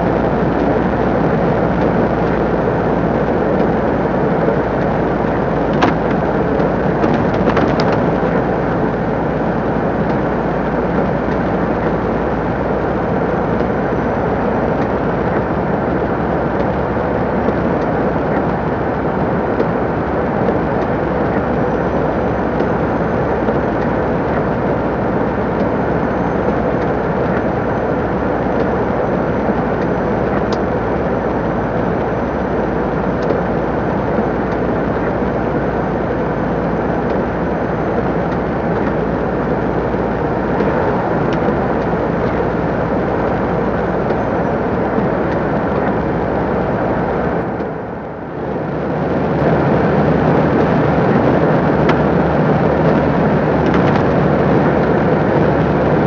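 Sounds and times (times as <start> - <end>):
lorry engine and road rumble: 0.0 - 56.0.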